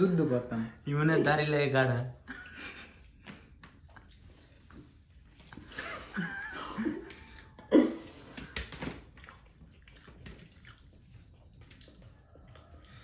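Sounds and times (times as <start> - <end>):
eating sounds: 2.6 - 13.0
hands squelching food: 2.6 - 13.0.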